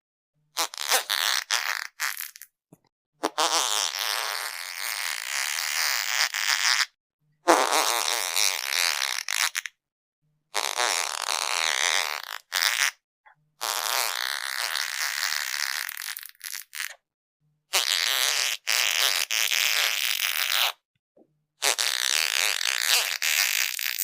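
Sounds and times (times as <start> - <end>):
fart sounds: 0.6 - 2.5, 3.2 - 9.8, 10.6 - 13.0, 13.6 - 17.0, 17.7 - 20.8, 21.6 - 24.0.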